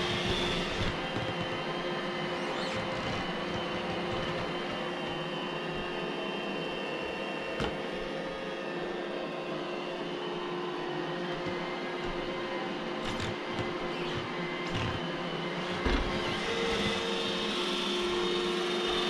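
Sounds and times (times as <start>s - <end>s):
robot vacuum humming: 0.0s - 19.0s.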